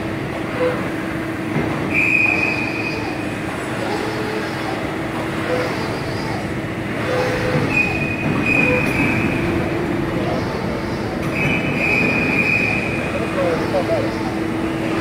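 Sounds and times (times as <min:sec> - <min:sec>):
hydraulic press brake humming: 0:00.0 - 0:15.0.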